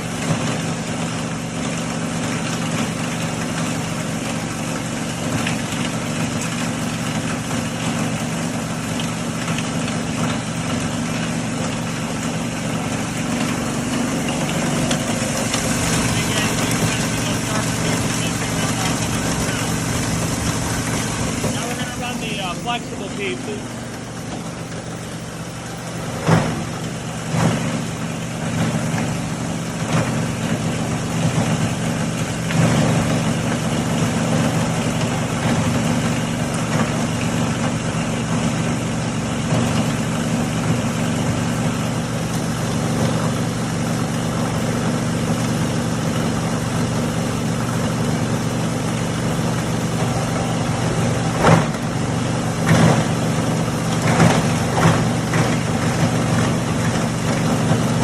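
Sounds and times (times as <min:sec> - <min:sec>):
granulator grinding: 0:05.2 - 0:37.5, 0:40.7 - 0:58.0.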